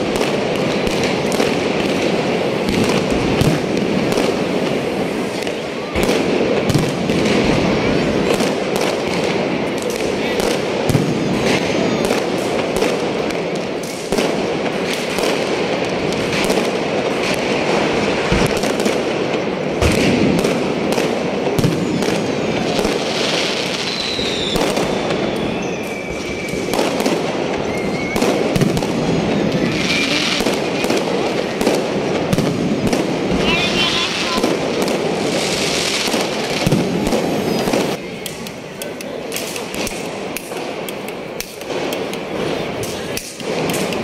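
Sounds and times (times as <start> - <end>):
firework whistles: 0.0 - 44.0
fireworks crackling and banging: 0.0 - 44.0.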